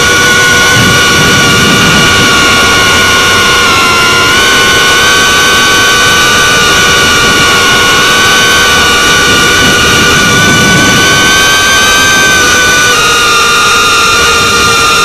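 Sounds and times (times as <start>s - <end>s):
drone motors whining: 0.0s - 15.0s
rushing air noise: 0.0s - 15.0s.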